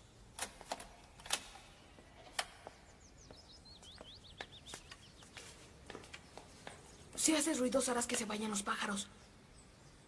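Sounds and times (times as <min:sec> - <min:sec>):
small birds chirping: 0:01.9 - 0:10.0.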